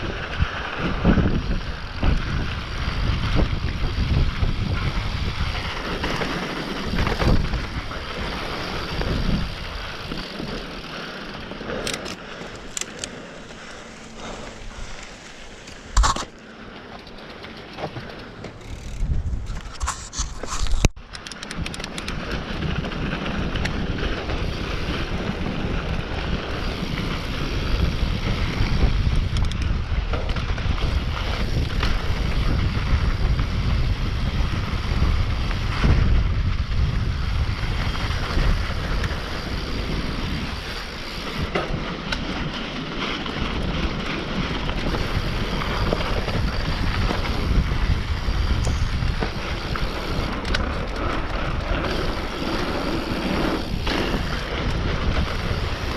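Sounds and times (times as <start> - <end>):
wind buffeting microphone: 0.0 - 16.3, 17.8 - 55.9
tyres rumbling on dirt: 0.0 - 19.8, 22.0 - 55.9
bike clicks and rattles: 0.0 - 55.9.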